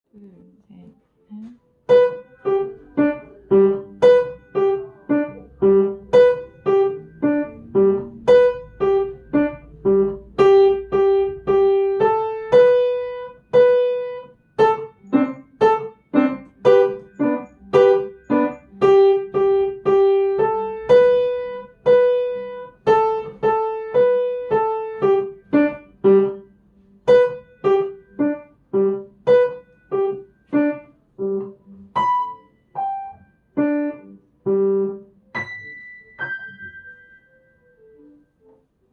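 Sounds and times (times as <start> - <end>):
piano playing short notes: 1.4 - 38.7.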